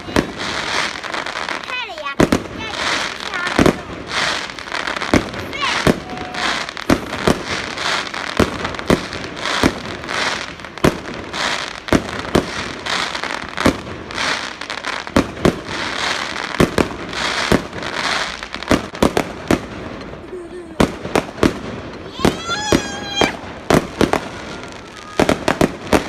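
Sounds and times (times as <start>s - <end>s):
fireworks bangs: 0.0s - 26.0s
fireworks crackling hiss: 0.0s - 26.0s.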